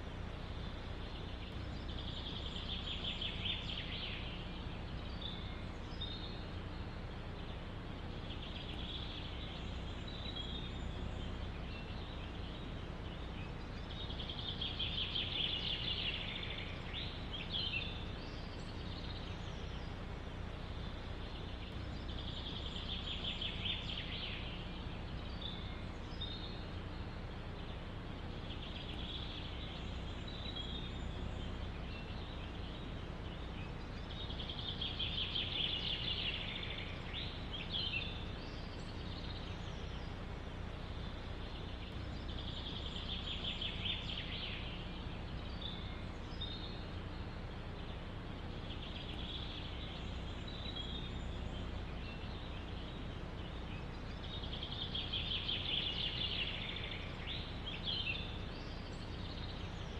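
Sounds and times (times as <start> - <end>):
low forest ambience rush: 0.0 - 59.9
songbird trilling: 0.0 - 59.9.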